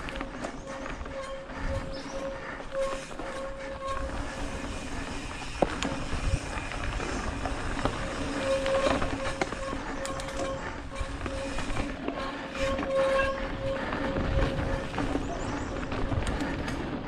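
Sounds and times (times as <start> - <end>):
bike tyres rumbling on dirt: 0.0 - 17.0.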